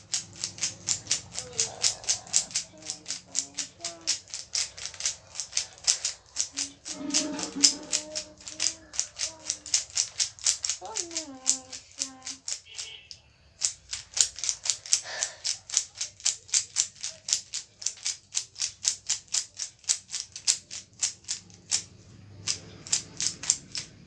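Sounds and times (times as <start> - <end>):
plastic puzzle cube layers clicking: 0.0 - 12.9, 13.6 - 24.0.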